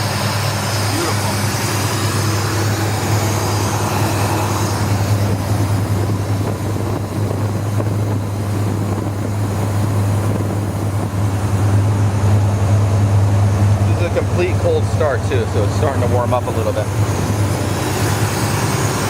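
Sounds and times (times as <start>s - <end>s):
vee eight engine idling: 0.0s - 19.0s.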